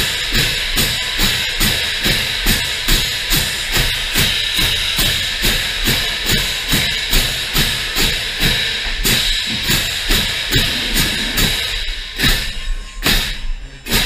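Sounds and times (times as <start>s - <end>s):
drumline drums playing: 0.0s - 14.0s
hand cymbals crashing: 0.0s - 14.0s.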